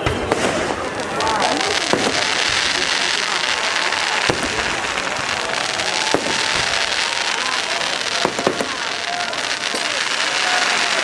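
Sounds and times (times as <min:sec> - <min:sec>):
fireworks crackling: 0:00.0 - 0:11.0
fireworks sharp bangs: 0:00.0 - 0:11.0.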